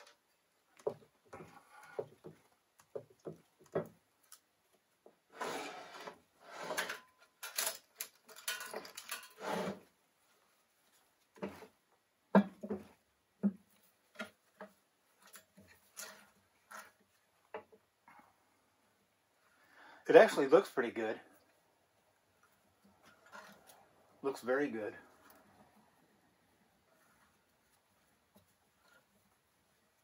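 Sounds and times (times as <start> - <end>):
scraping and rustling handling: 0.0 - 19.6, 20.2 - 30.0.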